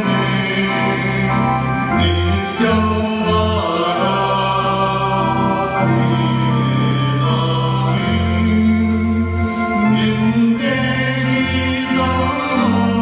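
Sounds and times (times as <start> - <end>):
organ bass notes: 0.0 - 13.0
people singing a hymn: 0.0 - 13.0.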